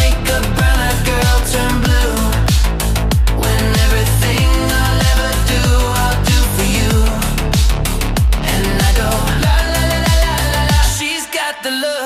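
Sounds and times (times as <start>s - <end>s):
heavy kick drum beat: 0.0s - 11.0s
sustained synth chords: 0.0s - 11.0s.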